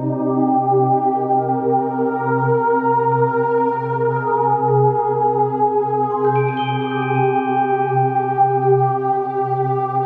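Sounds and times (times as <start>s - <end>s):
ambient music with sustained tones: 0.0s - 10.0s.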